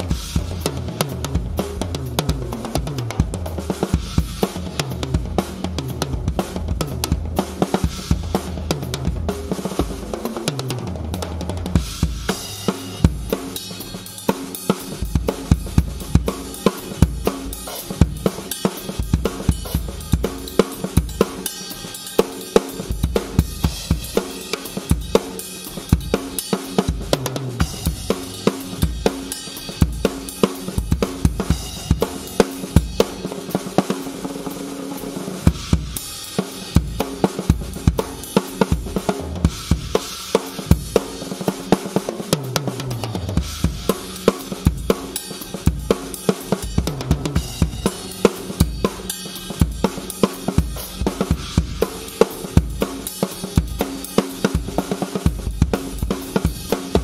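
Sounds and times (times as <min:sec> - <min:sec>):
bass drum: 0:00.0 - 0:13.6, 0:14.9 - 0:21.4, 0:22.8 - 0:25.2, 0:26.8 - 0:33.8, 0:35.4 - 0:36.1, 0:36.8 - 0:41.2, 0:42.6 - 0:57.0
drum kit playing a groove: 0:00.0 - 0:57.0.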